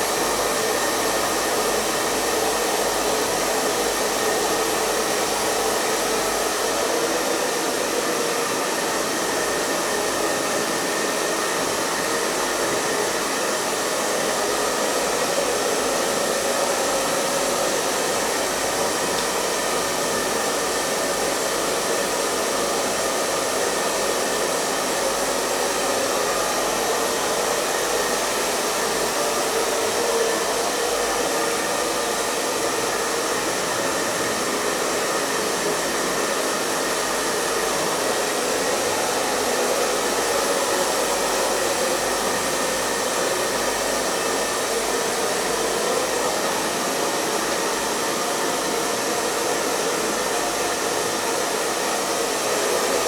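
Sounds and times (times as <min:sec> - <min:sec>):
hair dryer blowing: 0:00.0 - 0:53.0.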